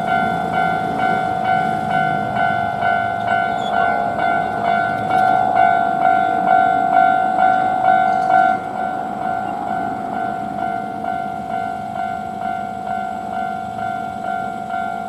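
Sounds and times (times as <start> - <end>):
level crossing bell clanging: 0.0 - 15.0.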